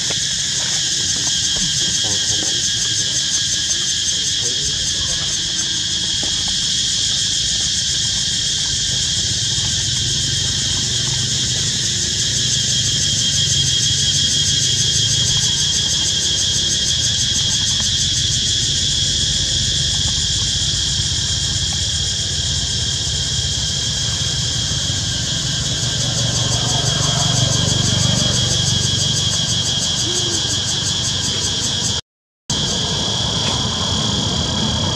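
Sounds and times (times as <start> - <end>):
insects shrilling: 0.0 - 31.9.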